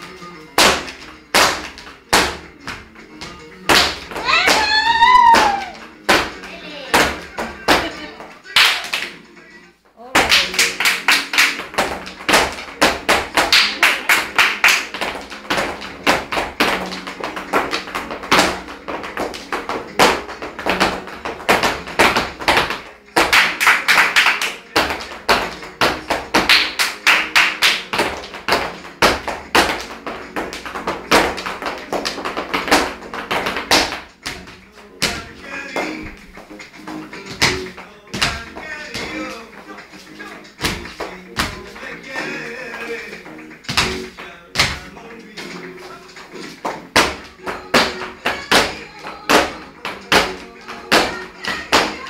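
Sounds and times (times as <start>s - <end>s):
rhythmic hand claps: 0.0s - 9.3s, 10.2s - 52.0s
faint flamenco music: 0.0s - 52.0s.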